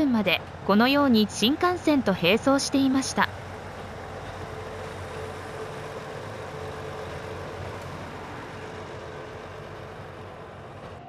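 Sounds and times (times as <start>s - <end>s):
train running on rails: 0.0s - 11.0s.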